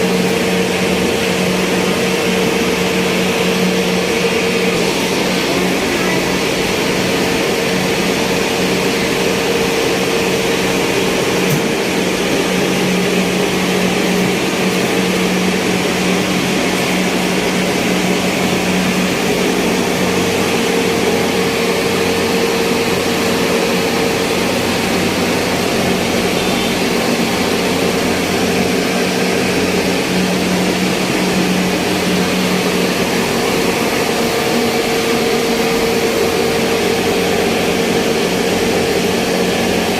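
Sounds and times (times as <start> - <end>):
mill machinery humming: 0.0 - 39.9.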